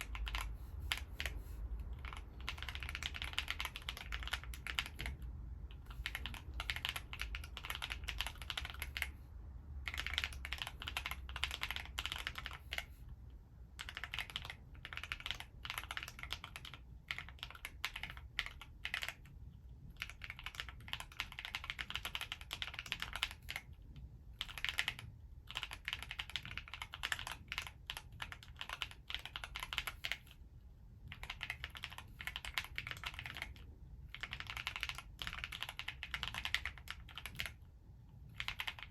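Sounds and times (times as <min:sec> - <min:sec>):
mechanical keyboard typing: 0:00.0 - 0:09.2, 0:09.8 - 0:13.0, 0:13.7 - 0:30.4, 0:31.0 - 0:38.9.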